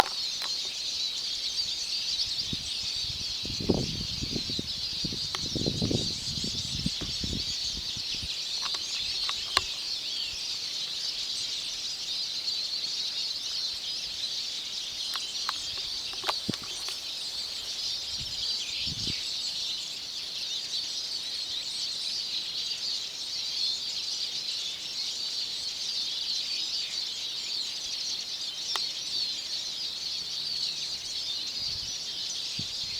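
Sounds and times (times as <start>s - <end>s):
birds chattering: 0.0s - 22.9s, 26.1s - 32.9s.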